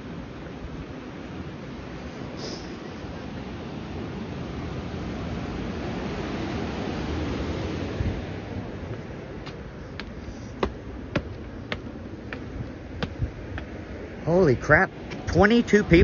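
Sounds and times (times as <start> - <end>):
wind buffeting microphone: 3.0 - 16.0.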